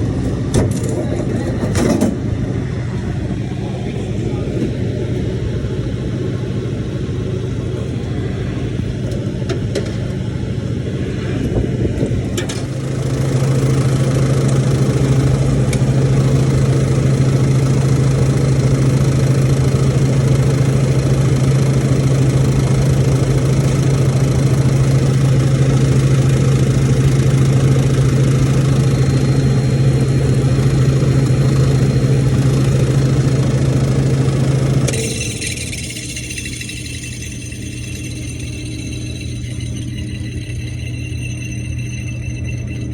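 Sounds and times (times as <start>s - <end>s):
refrigerated unit humming: 0.0s - 42.9s.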